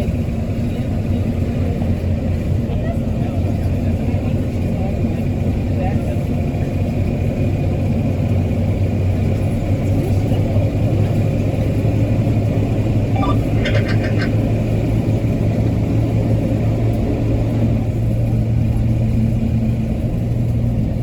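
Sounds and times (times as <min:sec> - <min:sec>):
bus engine drone: 0:00.0 - 0:21.0.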